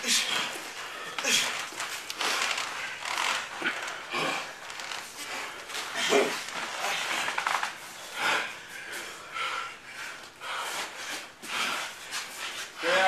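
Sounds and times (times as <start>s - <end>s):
fighters breathing hard: 0.0s - 13.0s.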